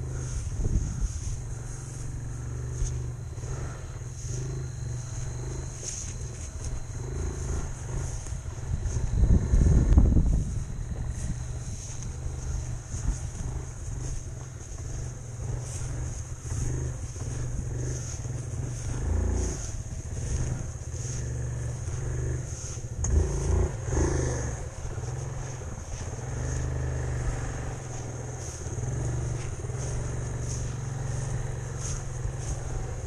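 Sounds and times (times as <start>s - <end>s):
off-road vehicle engine running: 0.0s - 33.0s.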